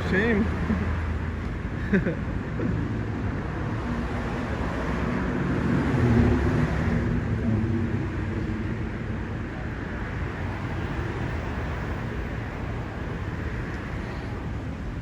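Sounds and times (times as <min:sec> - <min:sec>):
passing vehicle rumble: 0:00.0 - 0:14.9
steady traffic hum: 0:00.0 - 0:15.0.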